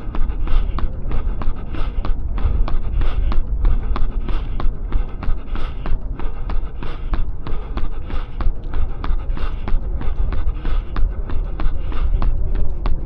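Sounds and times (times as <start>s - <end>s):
running footsteps on pavement: 0.0s - 13.0s
wind rumble on microphone: 0.0s - 13.0s.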